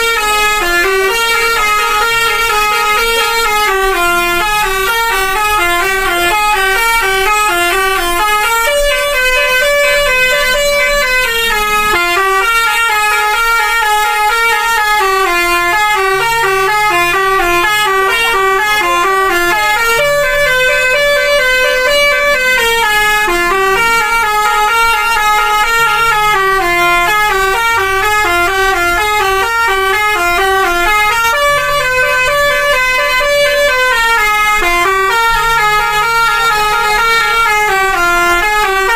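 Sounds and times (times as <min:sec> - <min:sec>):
musical bus horn tune: 0:00.0 - 0:38.9.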